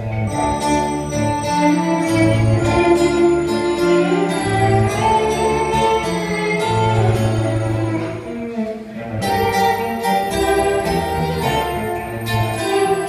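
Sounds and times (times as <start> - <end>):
keyboard: 0.0 - 13.0
low bowed string bass line: 0.0 - 13.0
violin: 0.0 - 13.0.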